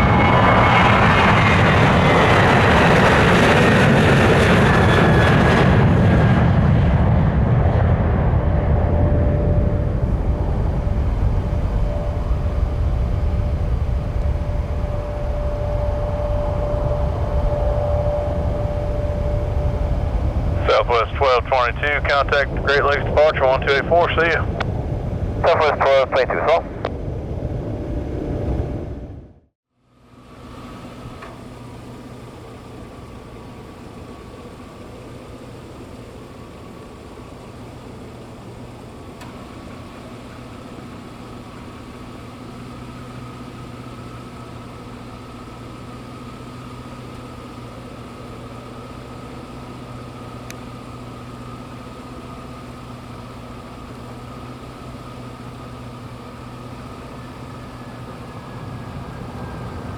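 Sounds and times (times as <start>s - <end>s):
distant jet engines humming: 0.0s - 29.3s, 29.9s - 59.9s.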